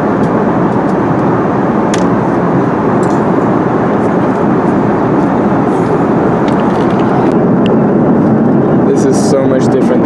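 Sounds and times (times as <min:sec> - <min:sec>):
jet cabin roar: 0:00.0 - 0:10.0.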